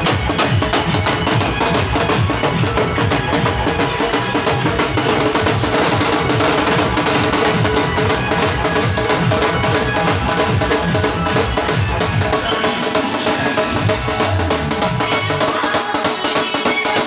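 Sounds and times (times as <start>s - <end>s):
band music: 0.0s - 15.3s
loud fast dhol drumming: 0.0s - 17.0s.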